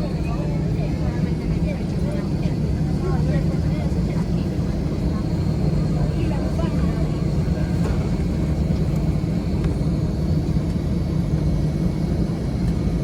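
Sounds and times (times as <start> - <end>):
aircraft cabin rumble and hiss: 0.0 - 13.0.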